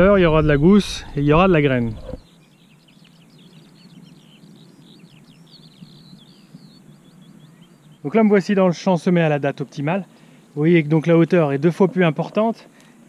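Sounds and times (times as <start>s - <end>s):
birds chirping and twittering: 0.0s - 13.0s
outdoor background noise: 0.0s - 13.0s.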